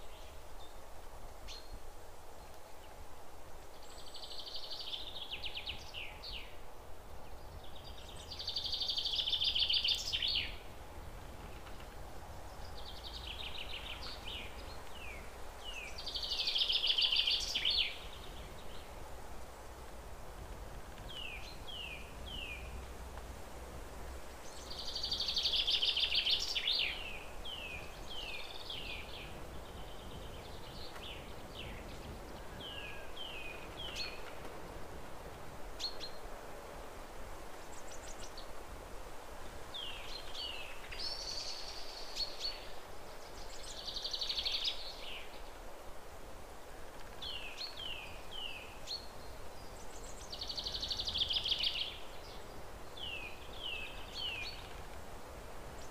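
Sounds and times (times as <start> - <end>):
faint steady hiss: 0.0 - 55.9
songbirds chirping: 0.0 - 55.9.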